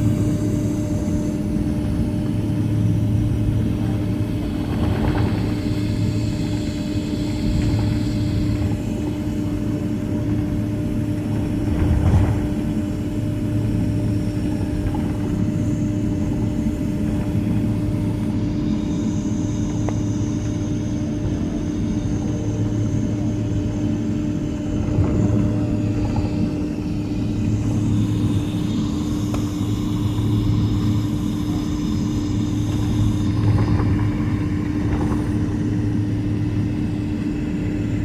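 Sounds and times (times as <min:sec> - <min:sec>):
aircraft cabin drone: 0:00.0 - 0:38.0.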